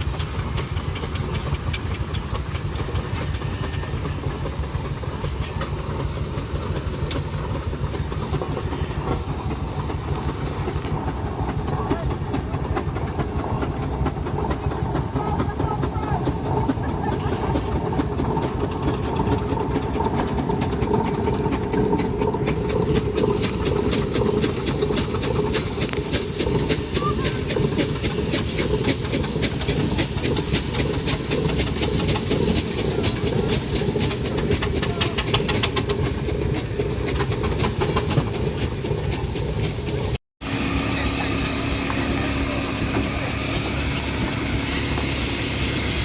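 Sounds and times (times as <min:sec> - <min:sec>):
engine running: 0:00.0 - 0:46.0.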